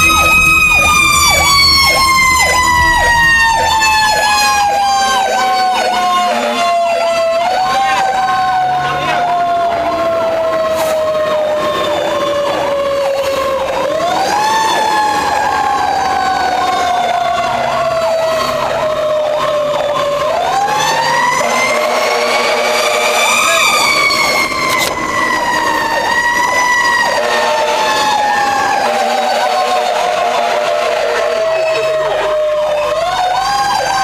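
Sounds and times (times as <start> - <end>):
fast yelp siren: 0.0 - 34.0
wailing siren: 0.0 - 34.0.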